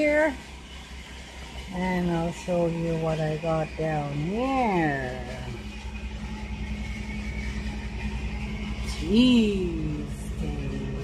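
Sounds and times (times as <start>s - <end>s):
faint high whine: 0.0s - 11.0s
low mechanical hum: 0.0s - 11.0s.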